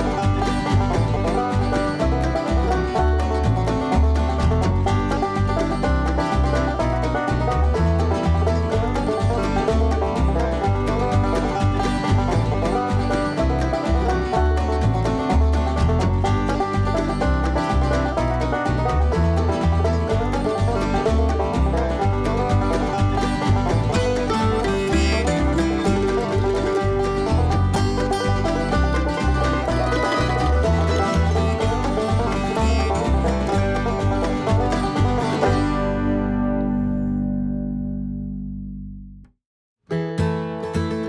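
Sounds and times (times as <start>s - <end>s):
banjo: 0.0s - 38.2s
bass beat: 0.0s - 39.2s.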